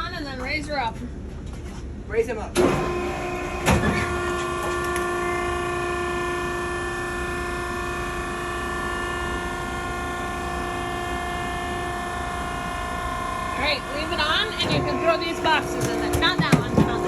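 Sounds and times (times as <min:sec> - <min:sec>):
hydraulic power unit droning: 0:02.6 - 0:17.0.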